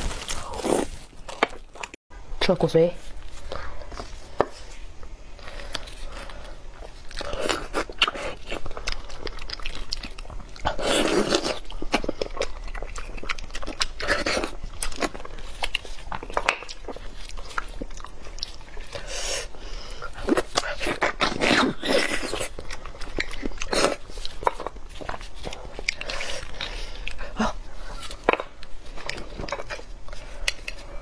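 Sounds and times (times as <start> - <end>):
slurping and chewing: 5.4 - 31.0.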